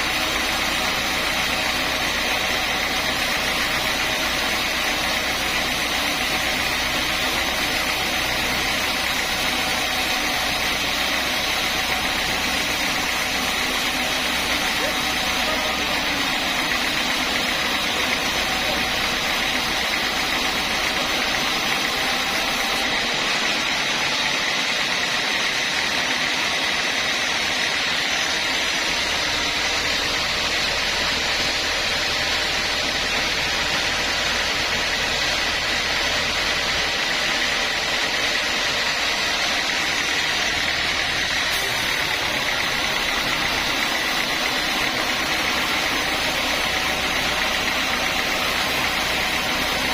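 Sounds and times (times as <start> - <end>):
sawmill saw droning with high whine: 0.0 - 49.9.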